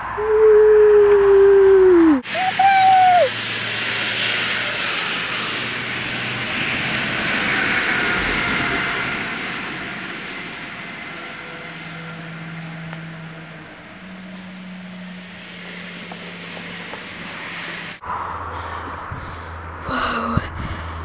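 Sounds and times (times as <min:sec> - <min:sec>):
jet plane passing overhead: 0:00.0 - 0:21.0.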